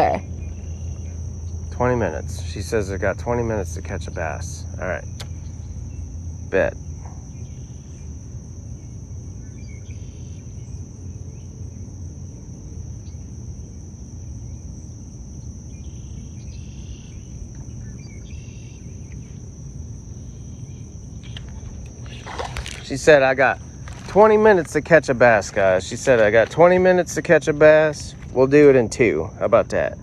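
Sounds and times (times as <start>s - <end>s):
insects trilling: 0.0s - 30.0s
low rumble of wind or water: 0.0s - 30.0s.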